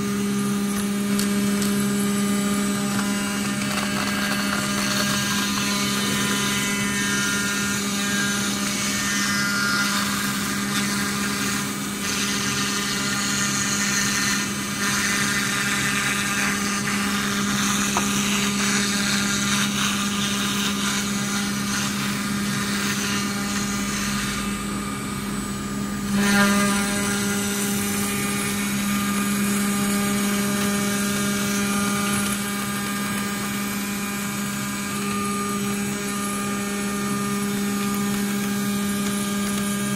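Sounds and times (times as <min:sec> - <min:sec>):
high cutting whine: 0:00.0 - 0:39.9
spindle hum: 0:00.0 - 0:39.9.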